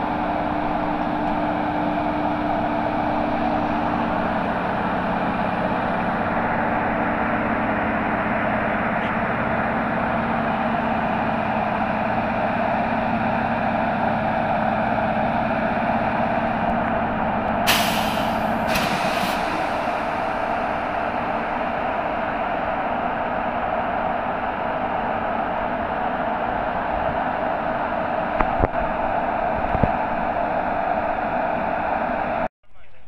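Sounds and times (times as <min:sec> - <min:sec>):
locomotive cooling blowers whirring: 0:00.0 - 0:32.4.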